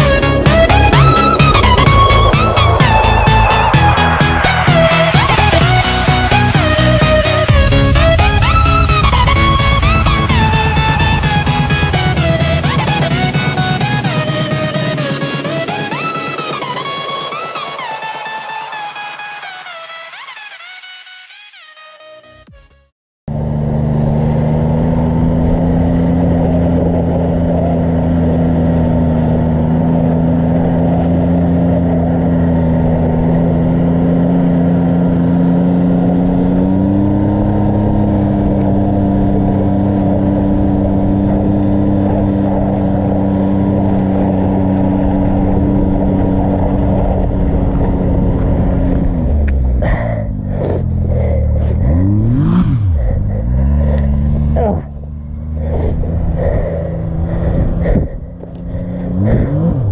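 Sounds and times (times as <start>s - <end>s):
utility vehicle engine running: 0.0s - 21.4s, 22.2s - 59.9s.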